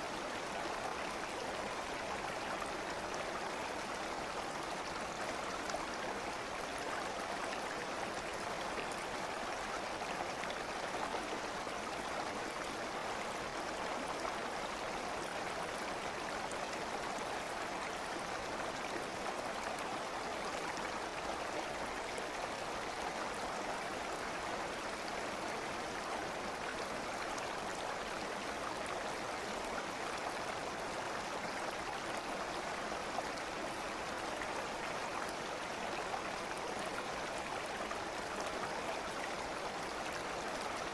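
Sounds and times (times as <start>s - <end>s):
stream of running water: 0.0s - 40.9s.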